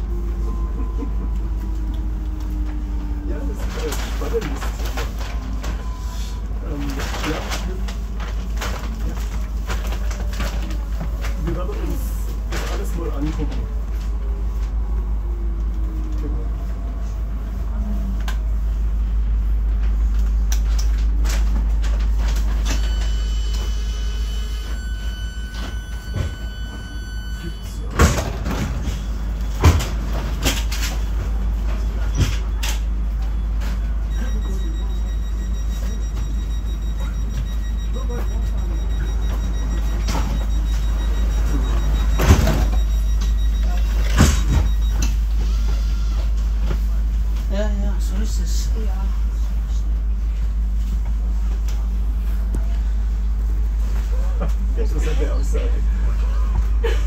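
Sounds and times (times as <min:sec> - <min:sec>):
train interior low rumble: 0:00.0 - 0:57.0.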